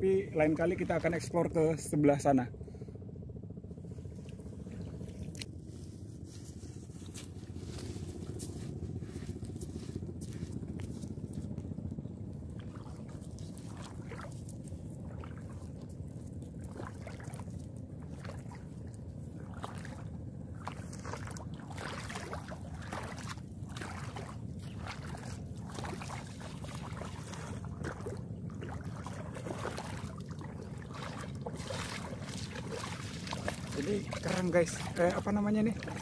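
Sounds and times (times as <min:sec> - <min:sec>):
steady low rumble: 0:00.0 - 0:36.0
footsteps splashing in shallow water: 0:00.4 - 0:01.4, 0:04.1 - 0:36.0.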